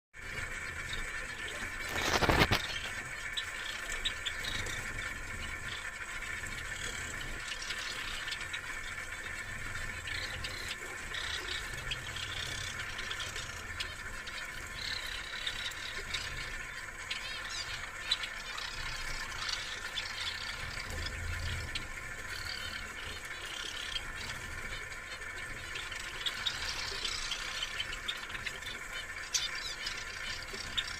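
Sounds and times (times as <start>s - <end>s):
birds chirping and twittering: 0.2s - 30.9s
steady background hum: 0.2s - 30.9s.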